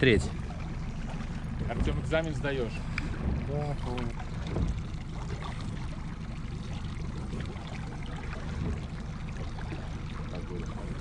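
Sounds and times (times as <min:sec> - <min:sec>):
outboard motor humming: 0:00.0 - 0:11.0
water sloshing against hull: 0:00.0 - 0:11.0.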